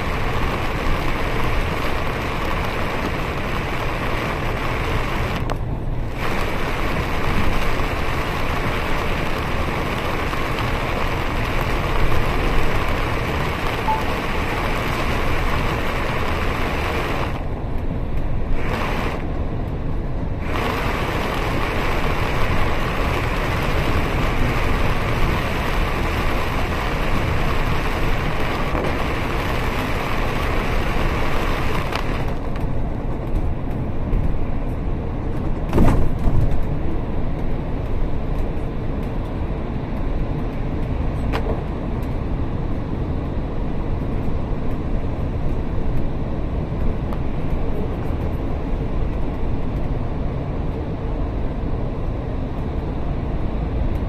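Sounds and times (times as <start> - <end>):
bus engine rumble: 0.0 - 54.0
rain hissing on bus: 0.0 - 54.0
tyres on wet road: 0.0 - 54.0.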